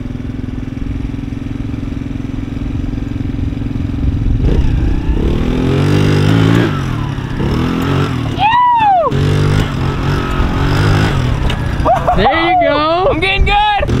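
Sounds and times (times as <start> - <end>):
small engine revving: 0.0 - 13.0, 13.7 - 14.0.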